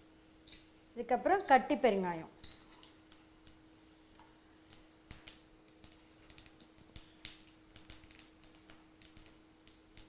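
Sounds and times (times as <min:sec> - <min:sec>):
spices popping in hot oil: 0:00.2 - 0:10.0.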